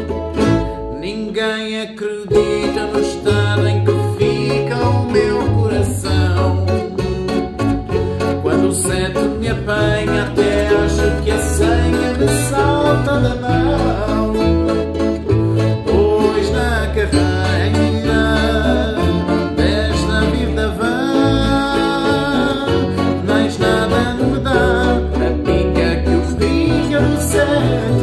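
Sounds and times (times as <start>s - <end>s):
bass ukulele notes: 0.0s - 28.0s
strummed and picked strings: 0.0s - 28.0s.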